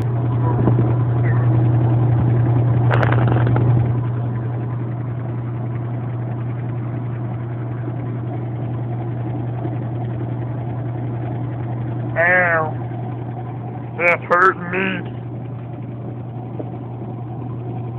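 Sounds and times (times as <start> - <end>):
motor humming: 0.0 - 17.9.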